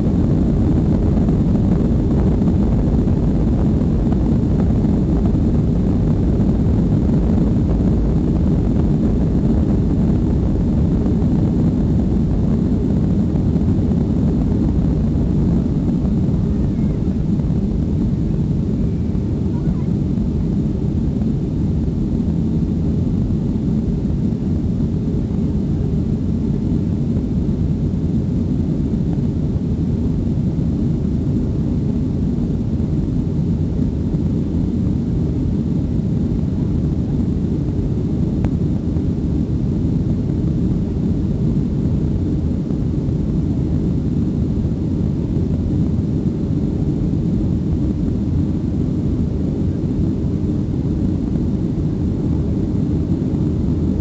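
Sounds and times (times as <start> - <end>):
jet engines rumbling in cabin: 0.0 - 54.0.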